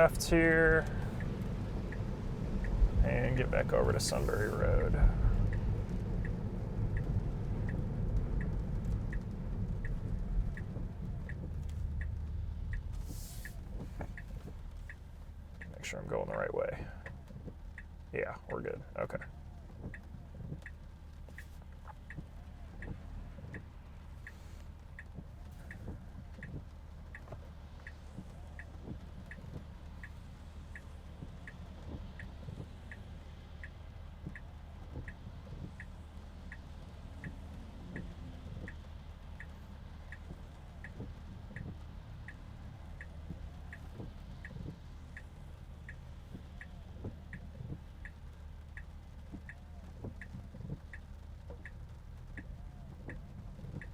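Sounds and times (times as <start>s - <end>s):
car cabin road noise: 0.0s - 53.9s
turn signal clicking: 0.0s - 53.9s.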